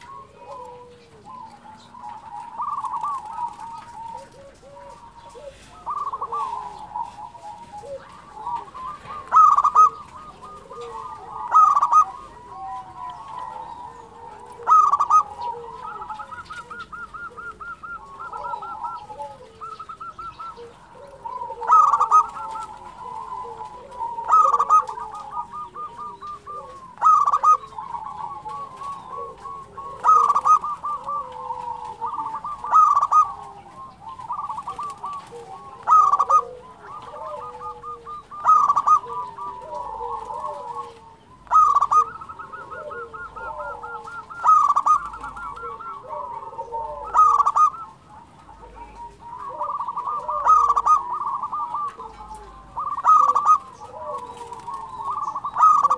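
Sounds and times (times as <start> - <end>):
dove trilled cooing: 0.0 - 55.9.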